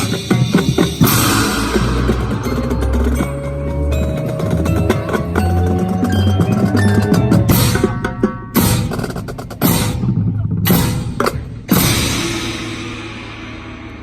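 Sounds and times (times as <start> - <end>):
loud crashing accents: 0.0 - 14.0
marching band playing: 0.0 - 14.0.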